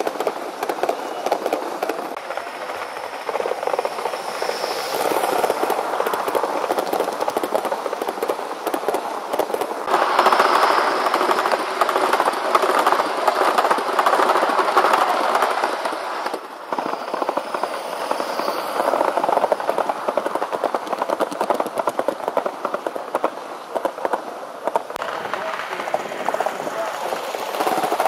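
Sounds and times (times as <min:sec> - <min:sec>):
model train wheels clattering: 0:00.0 - 0:28.0.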